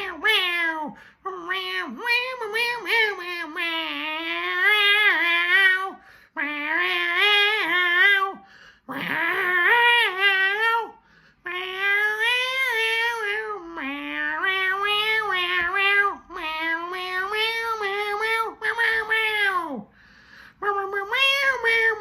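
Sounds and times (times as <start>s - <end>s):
man singing cat-like falsetto: 0.0s - 19.8s, 20.6s - 22.0s.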